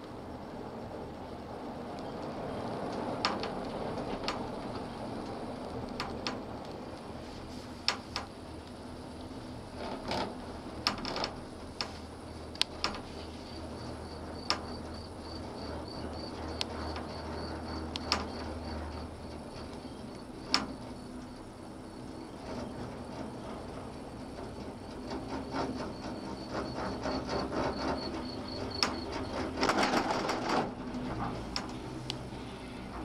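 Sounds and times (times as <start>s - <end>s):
gondola cabin hum: 0.0s - 33.0s
gondola grip clicking over rollers: 1.9s - 7.2s, 7.8s - 32.3s.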